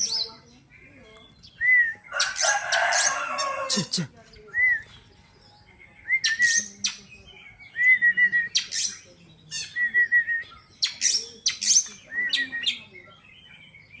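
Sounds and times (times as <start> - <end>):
songbird singing phrases: 0.0 - 14.0.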